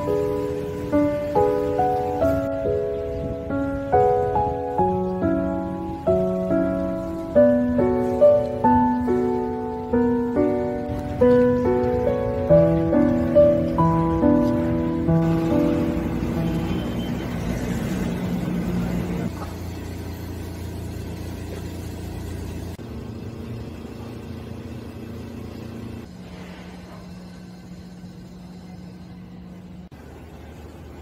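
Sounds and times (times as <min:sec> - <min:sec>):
road traffic hum: 0:00.0 - 0:31.0.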